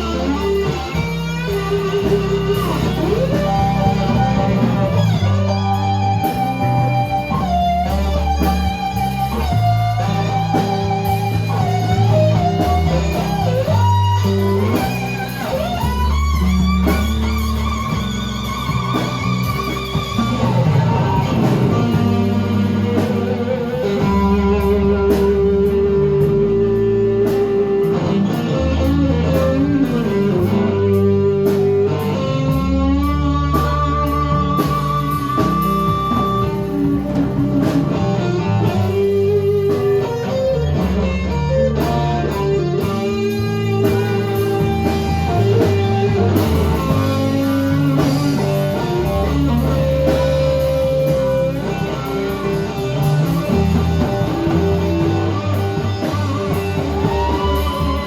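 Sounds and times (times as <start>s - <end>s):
bass and rhythm guitar: 0.0s - 58.0s
electric guitar lead: 0.0s - 58.0s.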